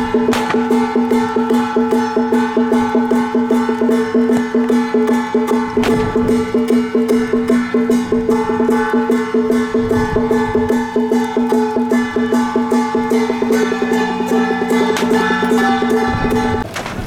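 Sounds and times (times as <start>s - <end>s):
higher melody line: 0.0s - 16.6s
wood-block beat: 0.0s - 16.6s
held pitched notes: 0.0s - 16.7s.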